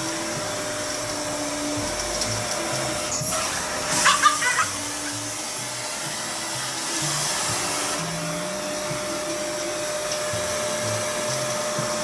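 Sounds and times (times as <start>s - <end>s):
background music: 0.0s - 12.0s
vacuum cleaner running: 0.0s - 12.0s.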